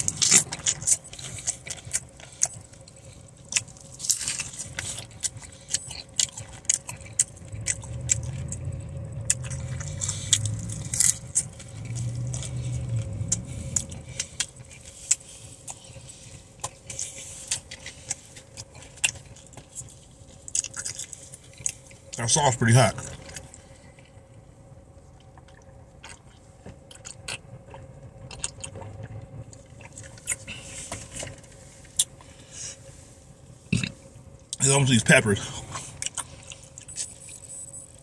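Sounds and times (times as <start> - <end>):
crunchy taco shell chewing: 0.0 - 32.9, 33.7 - 38.0.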